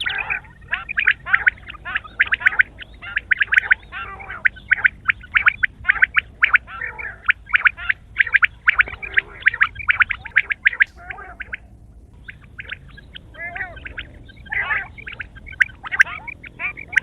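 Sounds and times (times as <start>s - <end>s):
quail calling: 0.0s - 17.0s
soft warbling chatter: 0.0s - 17.0s.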